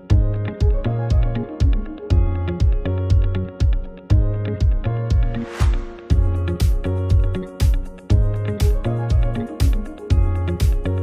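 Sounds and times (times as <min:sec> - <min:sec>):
electronic music with low thumps: 0:00.0 - 0:11.0.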